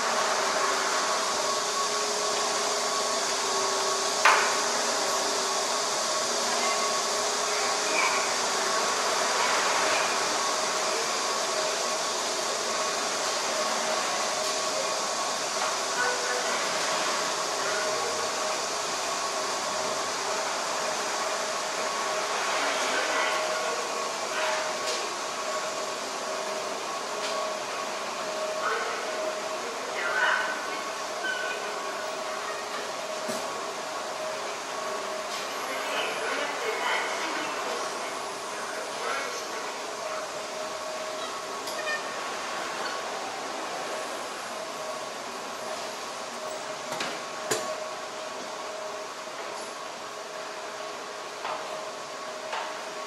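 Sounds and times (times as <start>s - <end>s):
mechanical hum and hiss: 0.0s - 53.0s.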